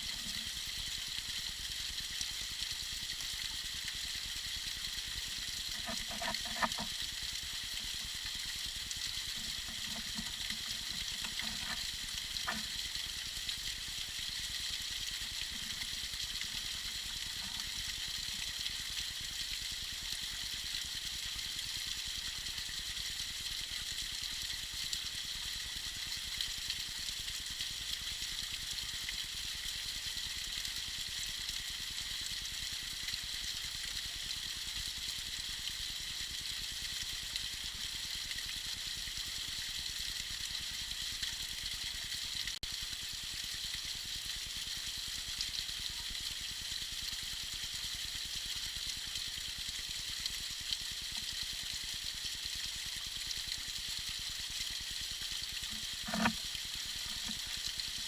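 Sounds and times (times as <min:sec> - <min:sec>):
small waterfall trickling and splashing: 0:00.0 - 0:58.0.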